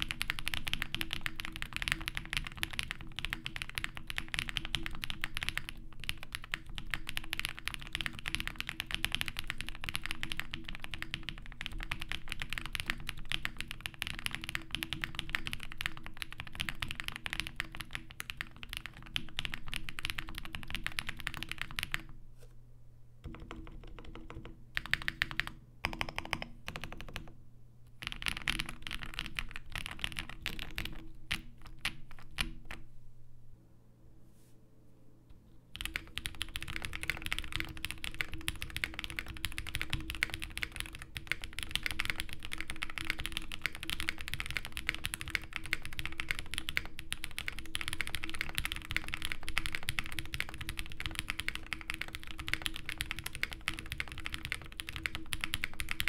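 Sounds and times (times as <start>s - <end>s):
mechanical keyboard typing: 0.0s - 22.1s, 23.3s - 27.3s, 28.0s - 32.8s, 35.8s - 56.0s.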